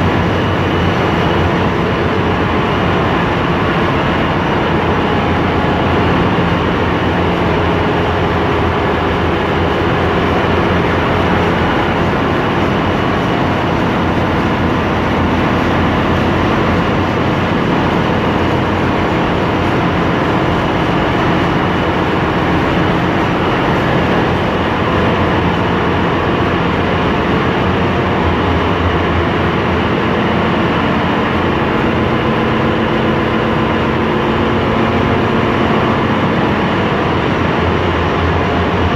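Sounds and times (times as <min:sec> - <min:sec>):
diesel engine room drone: 0:00.0 - 0:38.9.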